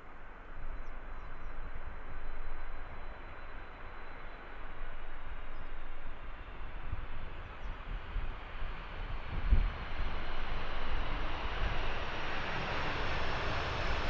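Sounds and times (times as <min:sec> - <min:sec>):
high-pitched engine whine: 0:00.1 - 0:14.0
jet engines deep rumble: 0:00.2 - 0:14.0.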